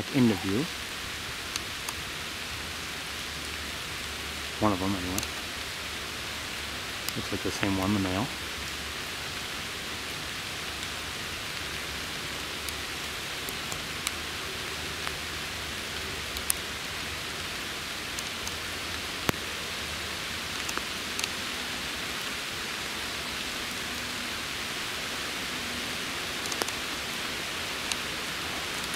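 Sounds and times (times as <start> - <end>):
rain hissing: 0.0 - 28.9.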